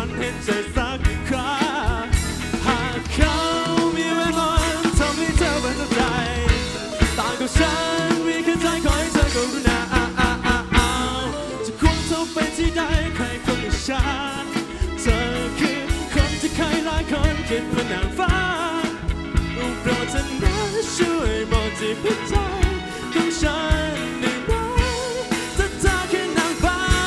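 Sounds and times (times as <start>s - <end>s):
drum kit beat: 0.0s - 27.0s
electric guitars: 0.0s - 27.0s
keyboard: 0.0s - 27.0s
man singing: 0.0s - 27.0s.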